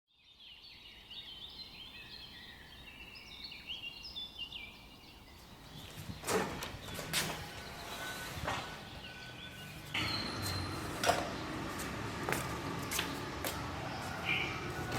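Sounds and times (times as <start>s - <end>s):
small birds chirping: 0.1s - 14.8s.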